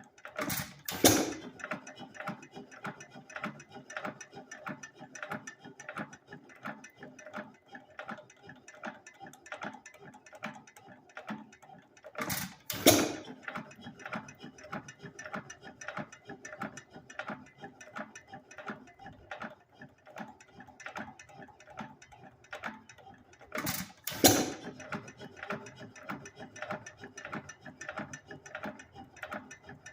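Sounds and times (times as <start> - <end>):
engine mechanical clicking: 0.0 - 7.0, 8.1 - 29.9.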